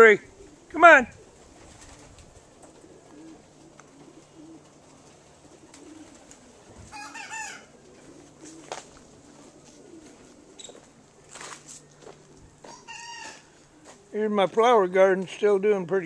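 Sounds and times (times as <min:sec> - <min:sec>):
pigeons cooing softly: 0:00.0 - 0:14.6.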